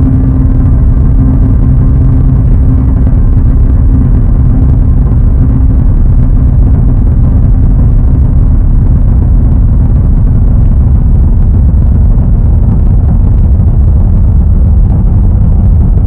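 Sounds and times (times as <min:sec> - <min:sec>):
high constant whine: 0:00.0 - 0:16.0
low rumble alarm: 0:00.0 - 0:16.0.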